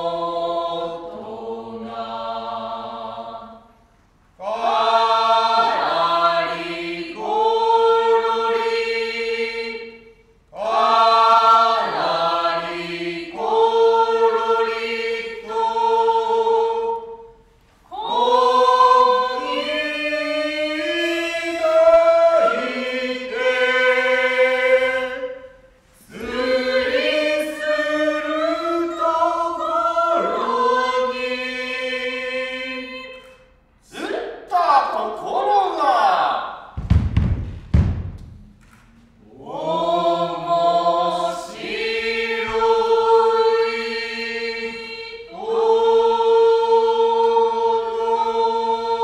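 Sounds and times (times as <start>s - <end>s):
group chanting in unison: 0.0s - 3.7s, 4.4s - 17.1s, 17.9s - 33.2s, 39.2s - 49.0s.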